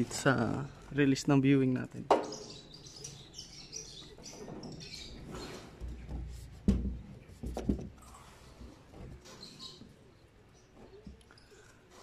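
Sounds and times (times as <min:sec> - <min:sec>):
small birds chirping: 0:00.0 - 0:06.6, 0:08.0 - 0:12.0.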